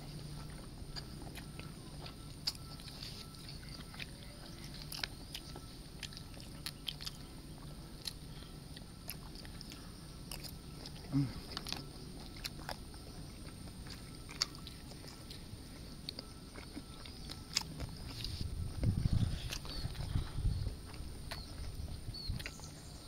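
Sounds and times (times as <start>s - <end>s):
people chewing food: 0.0s - 23.0s.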